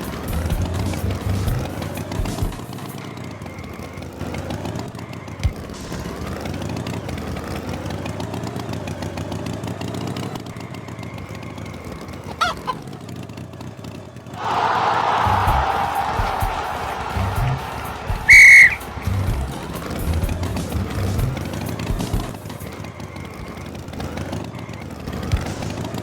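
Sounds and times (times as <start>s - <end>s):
cartoon tractor engine: 0.0s - 14.5s, 18.3s - 26.0s.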